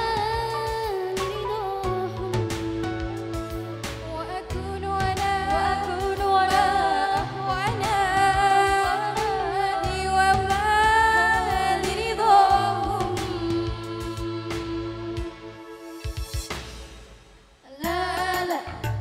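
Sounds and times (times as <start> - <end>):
girl singing slow melody: 0.0 - 15.8, 17.7 - 19.0
instrumental backing with bass: 0.0 - 19.0.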